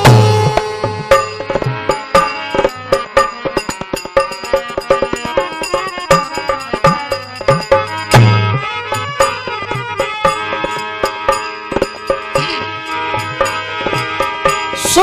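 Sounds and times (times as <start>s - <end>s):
fast hand-drum strokes: 0.0s - 15.0s
harmonium melody: 0.0s - 15.0s.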